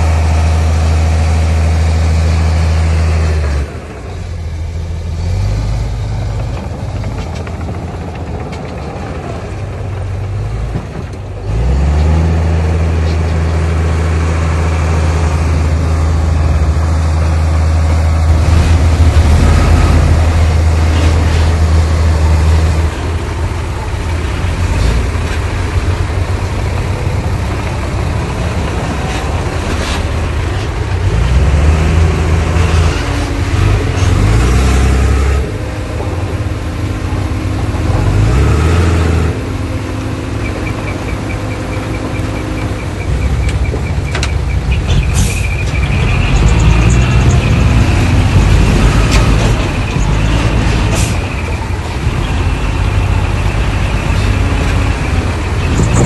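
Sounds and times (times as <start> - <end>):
diesel engine revving under load: 0.0 - 9.3, 10.0 - 56.0.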